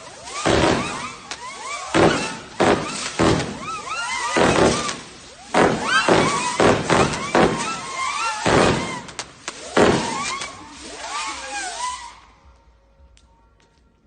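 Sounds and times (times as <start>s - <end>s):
fireworks bangs: 0.0s - 12.5s
fireworks whistles gliding: 0.0s - 12.9s.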